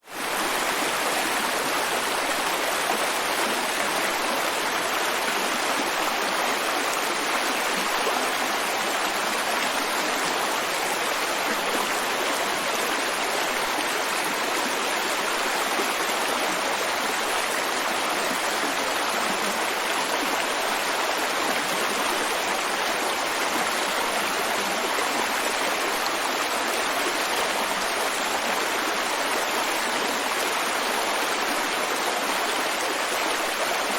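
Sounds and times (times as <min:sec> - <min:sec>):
brook babbling over stones: 0:00.0 - 0:33.9.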